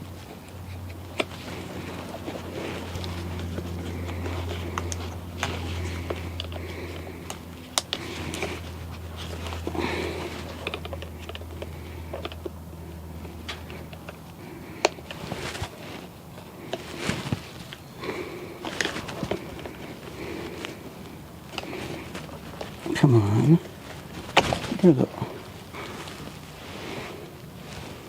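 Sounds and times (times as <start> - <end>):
low hum: 0.0 - 28.0
rustling handling noise: 0.0 - 28.0.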